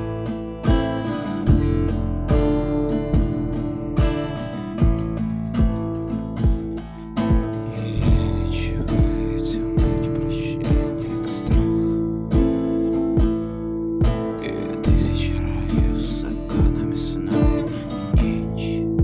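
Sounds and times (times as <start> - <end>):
song with strummed acoustic guitar: 0.0 - 19.0.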